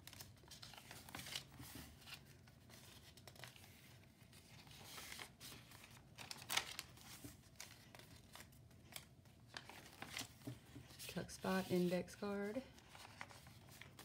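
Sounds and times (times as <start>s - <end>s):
paper pages rustling: 0.0s - 14.0s.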